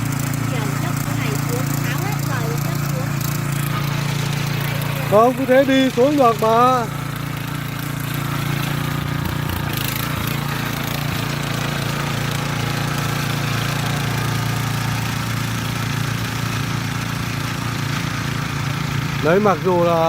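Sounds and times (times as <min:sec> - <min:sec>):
tiller engine running under load: 0:00.0 - 0:20.0.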